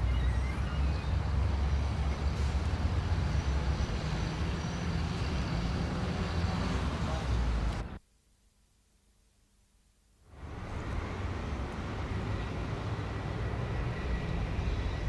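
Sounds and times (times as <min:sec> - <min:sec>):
city street noise: 0:00.0 - 0:08.0, 0:10.3 - 0:15.0
road traffic rumble: 0:00.0 - 0:08.0, 0:10.3 - 0:15.0.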